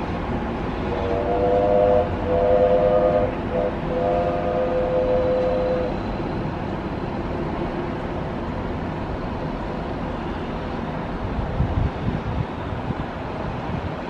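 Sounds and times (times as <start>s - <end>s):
distant traffic: 0.0s - 14.0s
wind: 0.0s - 14.0s.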